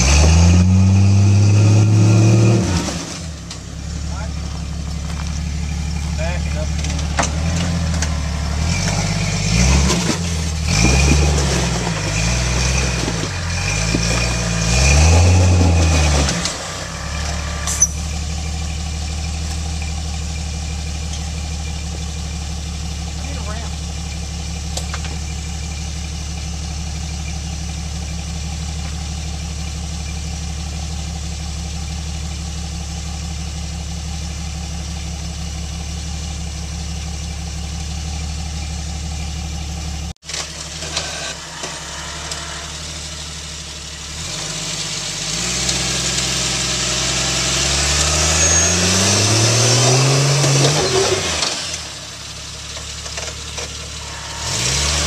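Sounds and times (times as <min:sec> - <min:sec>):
engine idling and revving: 0:00.0 - 0:55.0.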